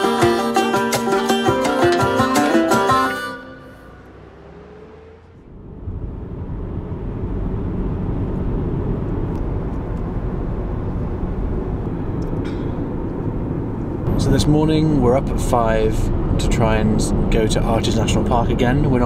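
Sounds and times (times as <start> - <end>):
car road rumble: 3.0 - 19.0.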